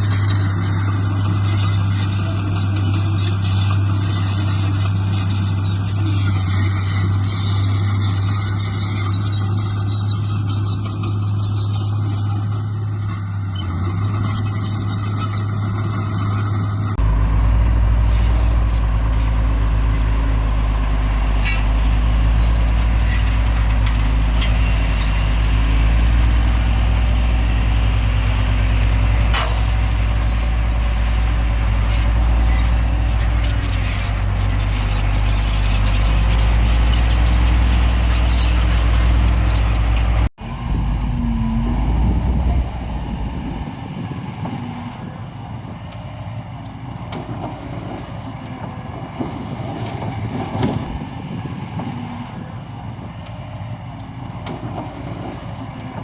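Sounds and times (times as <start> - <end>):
diesel earthmoving machinery droning: 0.0 - 56.0.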